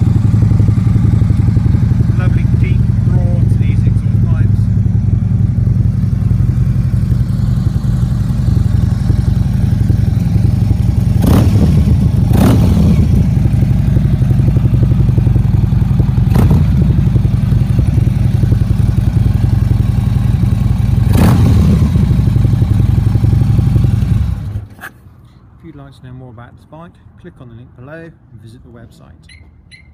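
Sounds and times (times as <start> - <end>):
motorcycle engine idling: 0.0 - 24.7.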